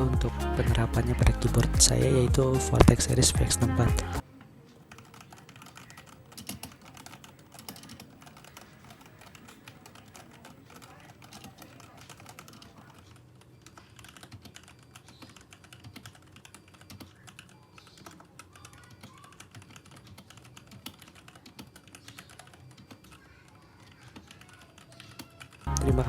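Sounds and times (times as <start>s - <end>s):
mechanical keyboard typing: 4.7s - 25.9s.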